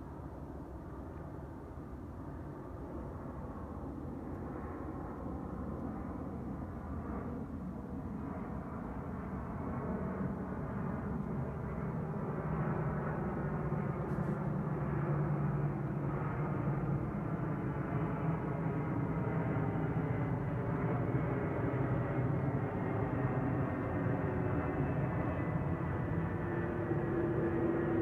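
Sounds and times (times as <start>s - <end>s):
airplane engine rumble: 0.0s - 28.0s.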